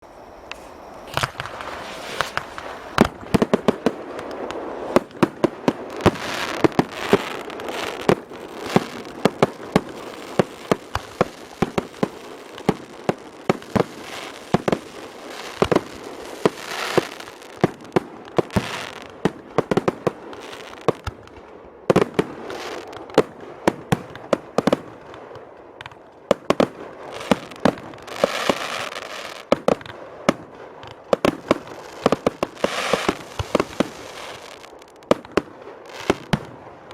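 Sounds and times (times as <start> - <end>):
fireworks hissing and crackling: 0.4 - 36.9
fireworks bangs: 0.5 - 36.9.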